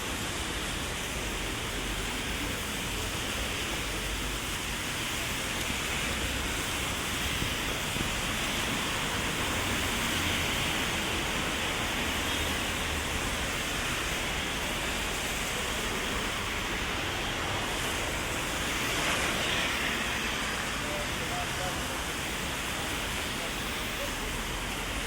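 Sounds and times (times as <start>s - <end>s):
heavy rain on umbrella: 0.0s - 25.0s.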